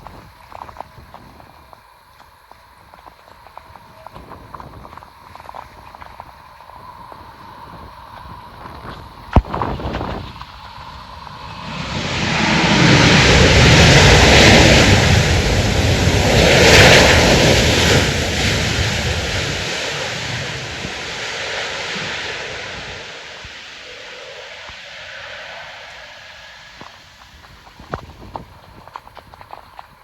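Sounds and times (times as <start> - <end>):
wind buffeting microphone: 2.8 - 30.0
jet airliner roar: 5.4 - 29.8.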